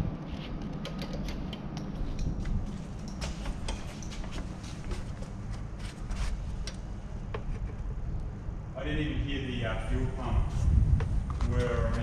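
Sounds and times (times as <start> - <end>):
steady low rumble: 1.3 - 12.0.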